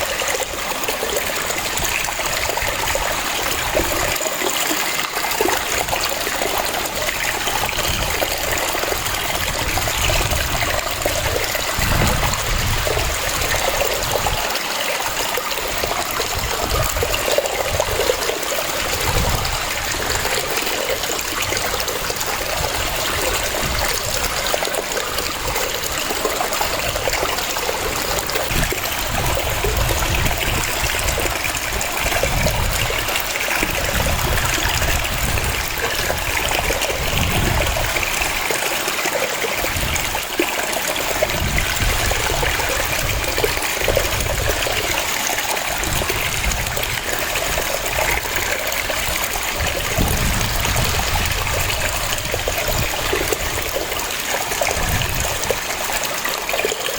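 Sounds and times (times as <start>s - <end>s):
waterfall cascading: 0.0s - 56.9s.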